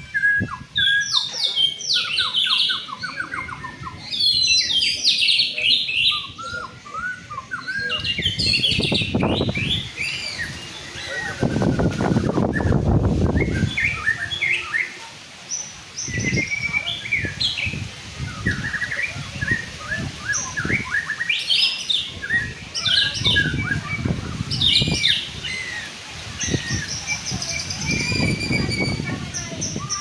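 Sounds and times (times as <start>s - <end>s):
songbird whistles and trills: 0.0s - 30.0s.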